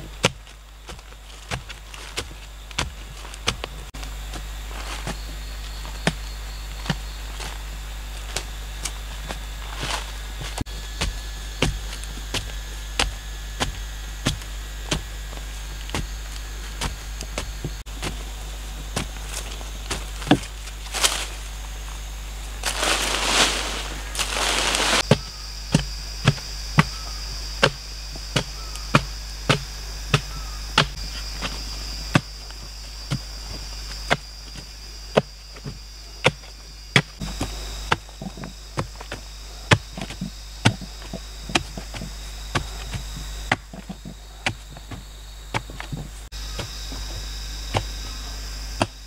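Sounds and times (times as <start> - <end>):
high insect drone: 0.0 - 49.0.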